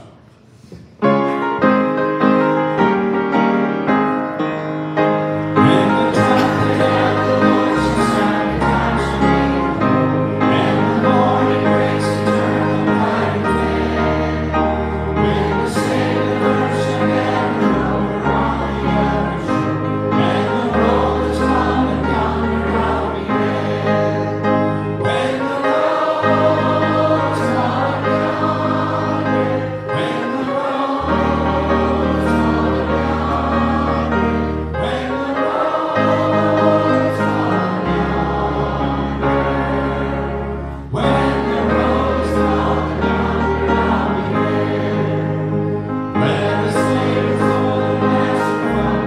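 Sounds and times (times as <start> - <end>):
congregation singing a hymn: 0.0 - 49.0
piano accompaniment: 0.0 - 49.0.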